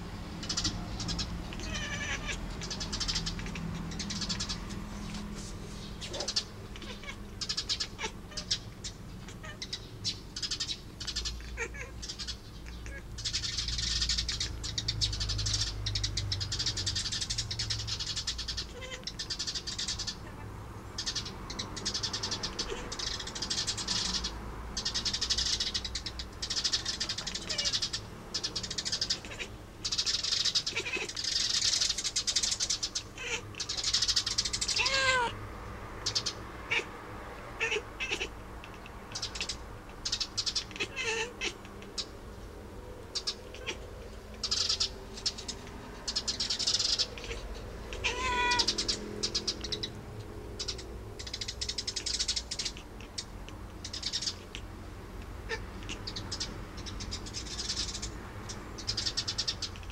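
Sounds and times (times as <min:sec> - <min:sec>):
cat chirping meows: 0:00.4 - 0:05.3, 0:06.0 - 0:35.4, 0:36.0 - 0:37.0, 0:37.6 - 0:42.2, 0:43.1 - 0:59.9
cat chattering: 0:00.4 - 0:35.4, 0:36.0 - 0:59.9.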